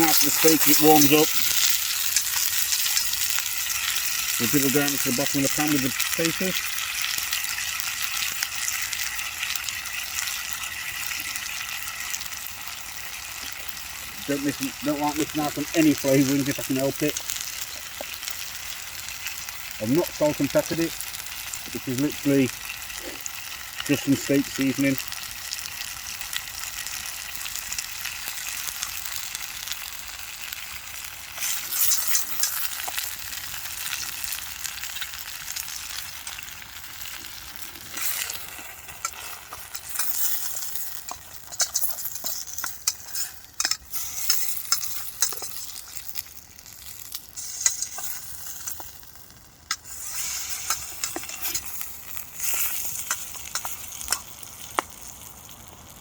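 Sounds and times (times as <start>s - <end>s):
fire crackling: 0.0s - 56.0s
food sizzling in a frying pan: 0.0s - 56.0s.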